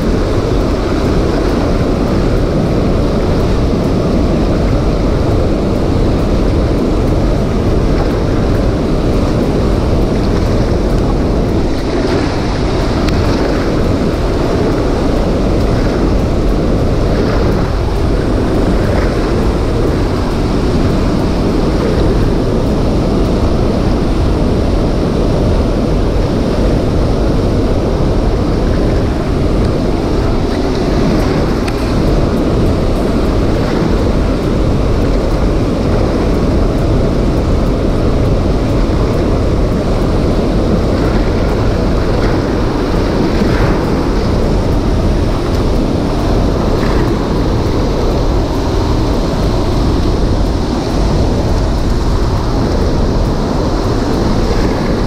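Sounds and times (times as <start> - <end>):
water rushing from dam outlet: 0.0 - 55.0.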